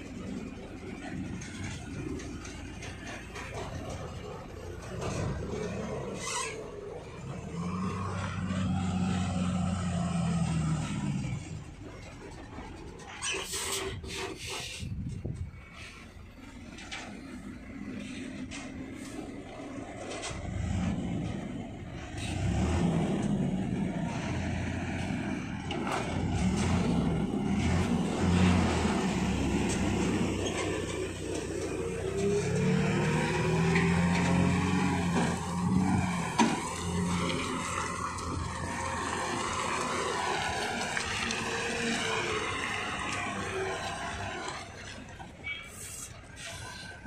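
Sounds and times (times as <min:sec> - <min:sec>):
lorry diesel engines at low revs: 0:00.0 - 0:47.0.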